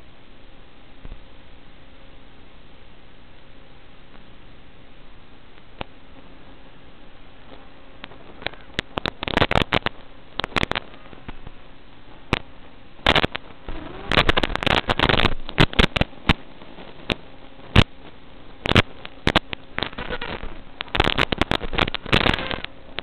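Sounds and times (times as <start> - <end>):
steady hiss: 0.0 - 23.0
crackling radio static: 3.4 - 23.0.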